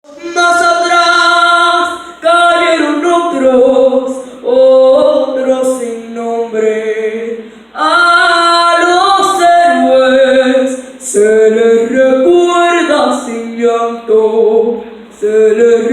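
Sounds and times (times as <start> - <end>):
girl singing unaccompanied: 0.0 - 7.2, 7.8 - 15.9.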